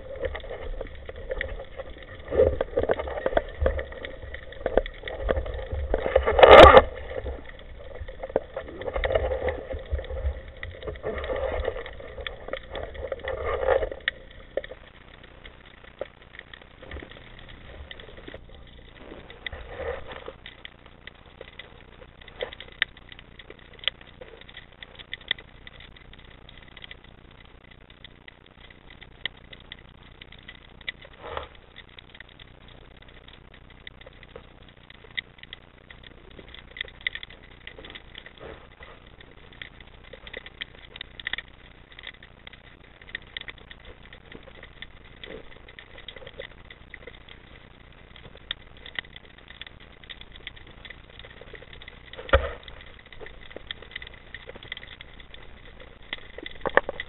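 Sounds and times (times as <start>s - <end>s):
faint clicks: 0.0s - 57.0s.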